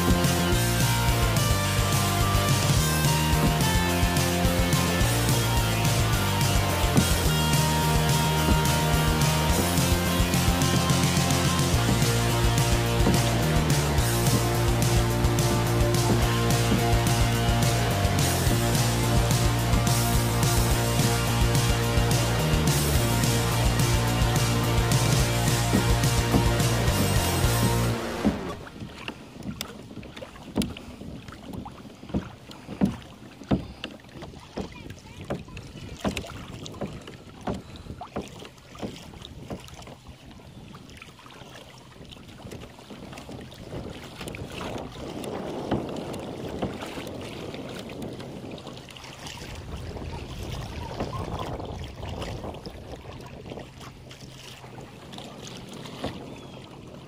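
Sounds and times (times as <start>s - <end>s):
soft rushing of water or wind: 0.0s - 57.0s
water splashing against kayak hull: 0.0s - 57.0s.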